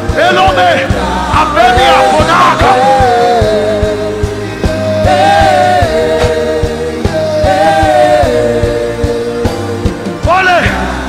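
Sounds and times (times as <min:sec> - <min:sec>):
steady low beat: 0:00.0 - 0:11.0.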